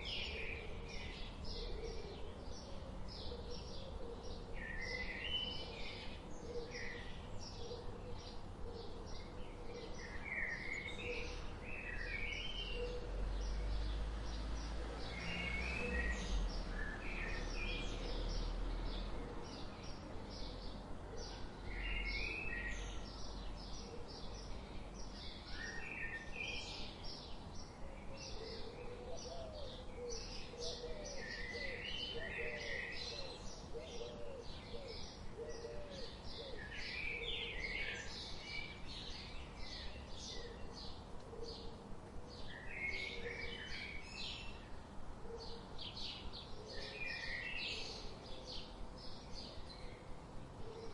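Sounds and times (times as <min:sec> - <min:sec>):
birds chirping and trilling: 0:00.0 - 0:44.7.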